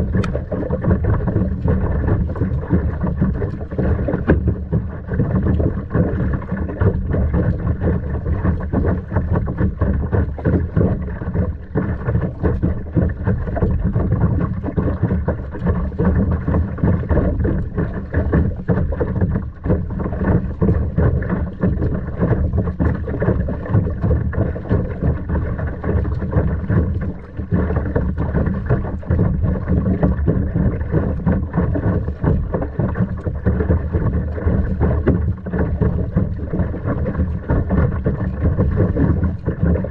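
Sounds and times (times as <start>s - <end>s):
water sloshing and splashing: 0.0s - 39.9s
wind rumbling on microphone: 0.0s - 39.9s.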